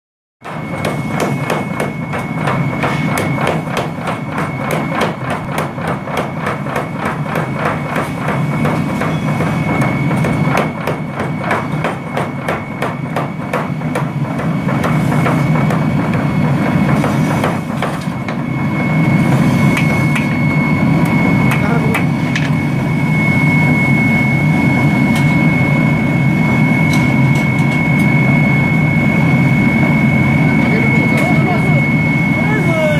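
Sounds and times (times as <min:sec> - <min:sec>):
spring hammer pounding hot steel: 0:00.4 - 0:28.4
thin high whine: 0:00.4 - 0:32.9
low machine hum: 0:00.5 - 0:32.9.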